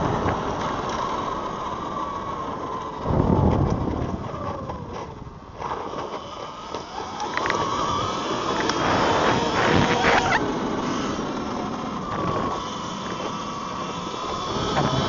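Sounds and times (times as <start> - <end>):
electric motorbike motor whining: 0.0 - 15.0.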